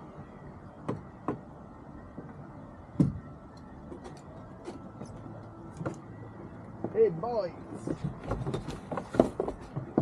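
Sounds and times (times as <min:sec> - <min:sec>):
steady low background noise: 0:00.0 - 0:10.0.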